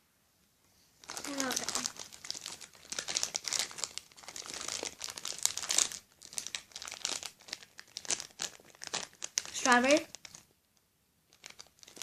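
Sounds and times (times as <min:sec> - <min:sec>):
plastic wrapper crinkling: 0:01.0 - 0:12.0.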